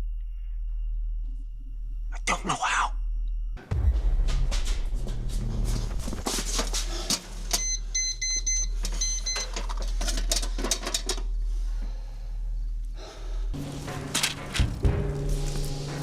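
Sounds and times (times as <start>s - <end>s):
steady low hum: 2.9s - 16.0s.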